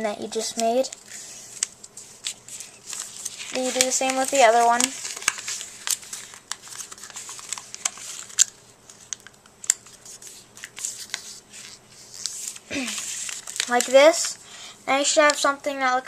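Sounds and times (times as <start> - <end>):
paper being folded and creased: 0.4 - 14.4.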